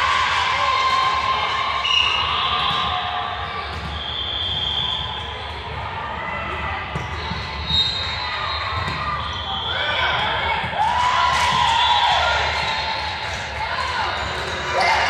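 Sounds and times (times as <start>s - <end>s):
voices echoing in gym: 0.0s - 15.0s.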